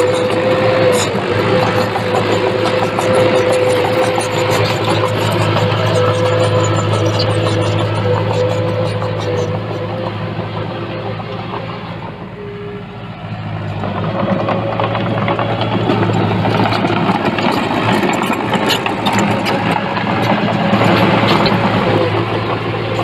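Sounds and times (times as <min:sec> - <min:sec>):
heavy diesel engine under load: 0:00.0 - 0:23.0.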